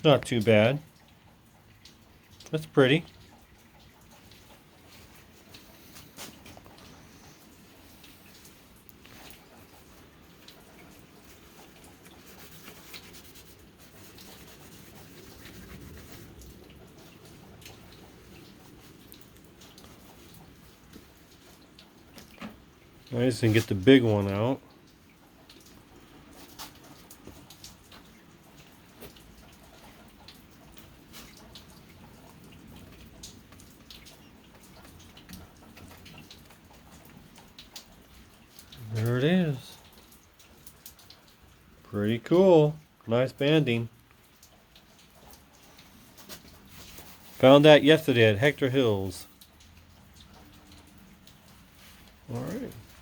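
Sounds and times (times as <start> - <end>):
faint oil drips: 0.0 - 53.0.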